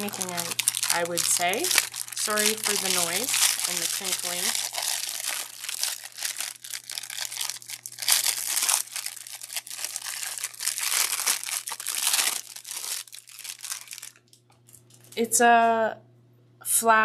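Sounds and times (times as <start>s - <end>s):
plastic film crinkling: 0.0s - 15.2s.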